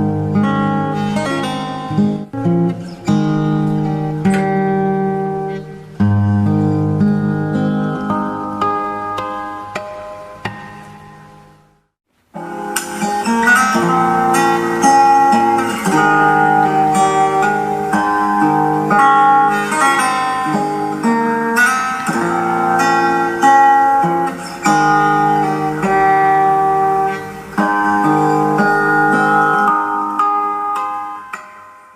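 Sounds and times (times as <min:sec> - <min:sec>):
fingerstyle acoustic guitar: 0:00.0 - 0:31.9.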